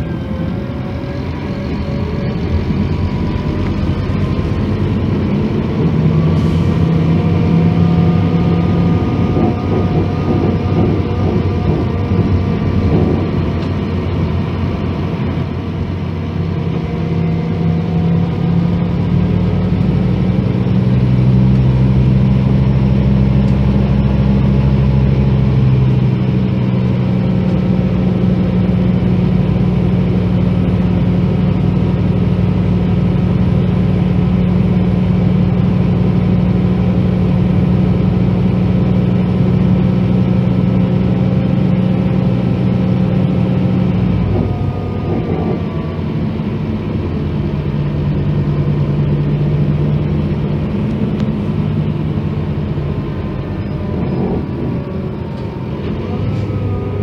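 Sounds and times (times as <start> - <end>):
diesel coach engine running: 0.0 - 57.0.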